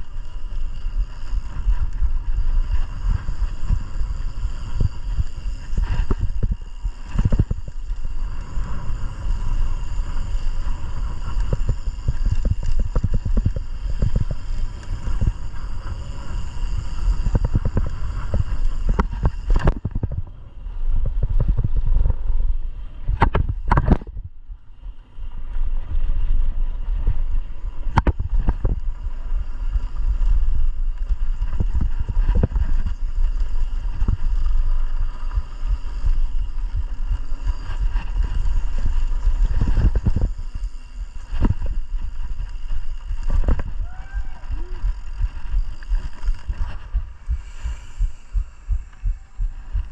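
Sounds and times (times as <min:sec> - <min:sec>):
wind rushing on microphone: 0:00.0 - 0:49.9.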